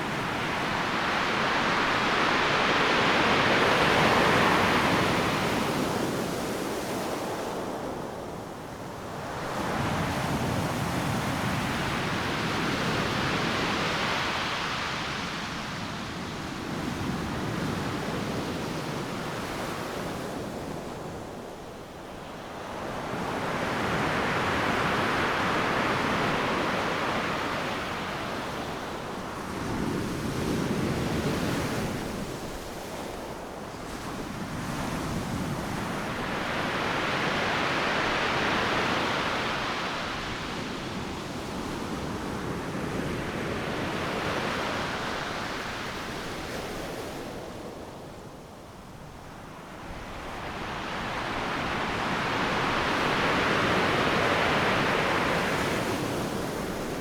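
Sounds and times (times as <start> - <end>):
waves crashing on beach: 0.0 - 21.0, 21.6 - 57.0
constant roar of surf: 0.0 - 57.0.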